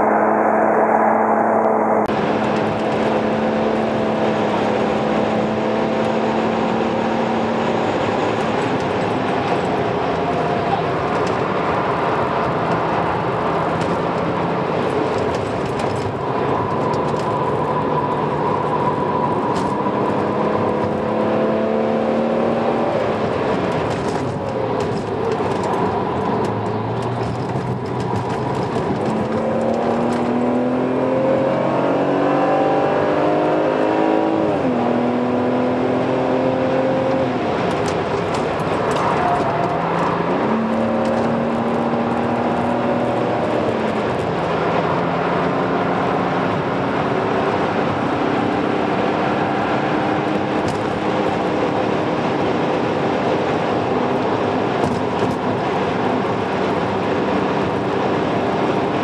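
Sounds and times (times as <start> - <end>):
car engine revving: 0.0 - 59.0
tyre and road noise: 0.0 - 59.0.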